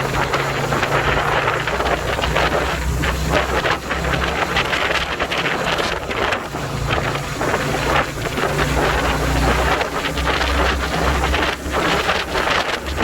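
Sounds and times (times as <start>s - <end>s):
motorcycle engine running: 0.0s - 13.0s
wind buffeting on microphone: 0.0s - 13.0s.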